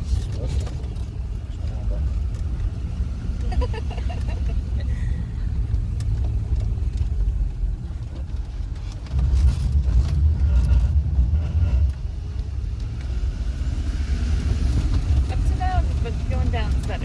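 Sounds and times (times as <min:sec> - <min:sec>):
engine and road rumble in cabin: 0:00.0 - 0:17.0.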